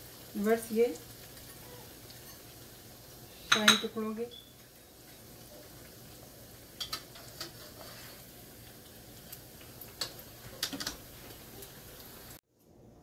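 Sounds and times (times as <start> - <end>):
bread sizzling in a wok: 0.0 - 12.4.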